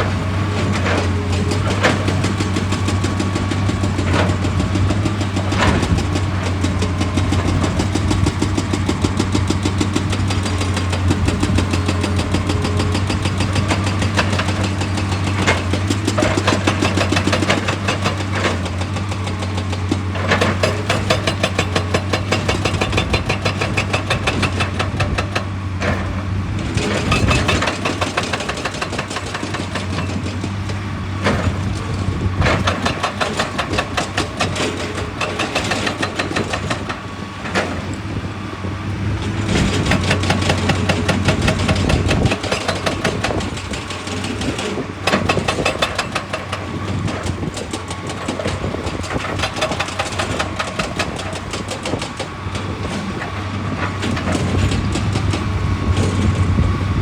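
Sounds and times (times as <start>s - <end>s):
hard knocks and rock crunching: 0.0s - 57.0s
heavy diesel engine running: 0.0s - 57.0s.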